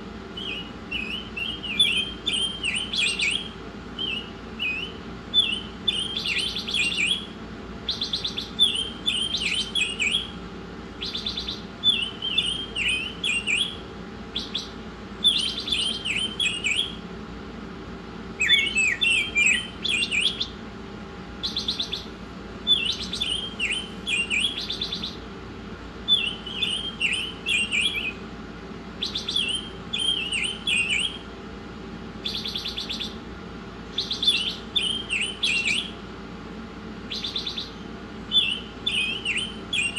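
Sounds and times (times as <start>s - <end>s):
faint steady hum: 0.0s - 39.9s
songbird twittering and trilling: 0.3s - 10.4s, 11.0s - 17.0s, 18.4s - 20.6s, 21.4s - 25.3s, 26.0s - 28.2s, 29.0s - 31.3s, 32.2s - 33.2s, 33.8s - 36.0s, 37.0s - 39.9s.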